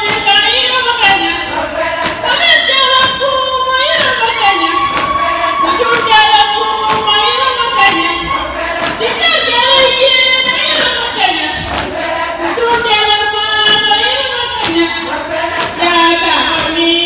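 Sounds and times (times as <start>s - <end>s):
sharp percussive beat: 0.0s - 17.0s
women singing together: 0.0s - 17.0s.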